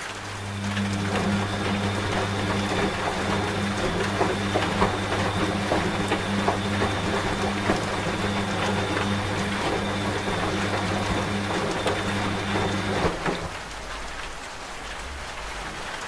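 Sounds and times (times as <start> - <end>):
rain falling: 0.0 - 16.0
washing machine pump humming: 0.0 - 16.0
water running: 0.0 - 16.0.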